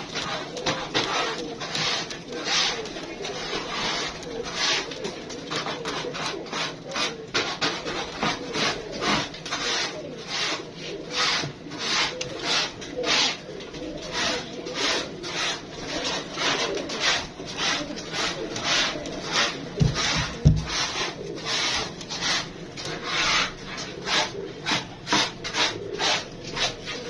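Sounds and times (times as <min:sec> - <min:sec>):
pigeons cooing: 0:00.0 - 0:27.0
rasping scraping strokes: 0:00.0 - 0:27.0.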